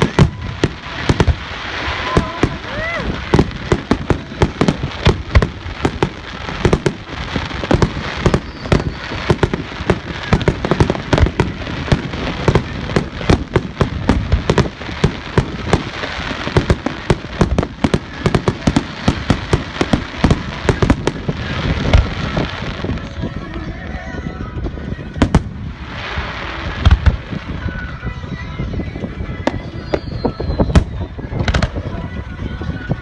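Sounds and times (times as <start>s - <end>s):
fireworks sharp bangs: 0.0s - 23.2s, 25.0s - 27.8s, 29.4s - 32.1s
fireworks crackling: 0.0s - 33.0s.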